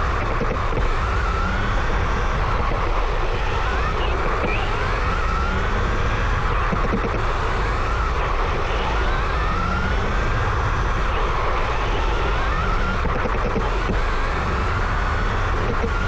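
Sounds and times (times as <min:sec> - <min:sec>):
toy truck electric motor whining: 0:00.0 - 0:16.0.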